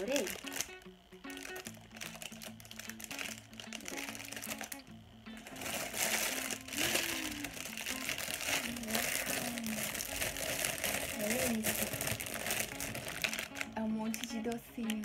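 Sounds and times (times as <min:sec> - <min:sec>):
background music low notes: 0:00.0 - 0:15.0
packaging crinkling and rustling: 0:00.0 - 0:15.0.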